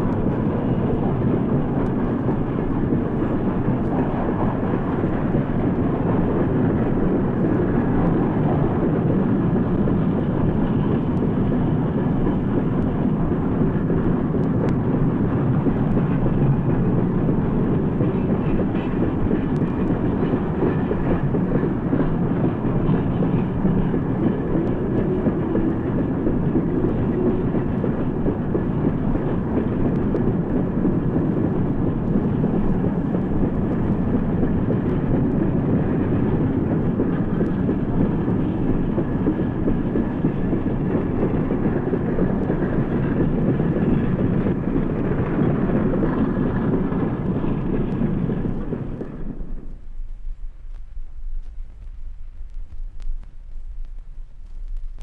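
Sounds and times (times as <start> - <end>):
steam train rumbling past: 0.0 - 55.0.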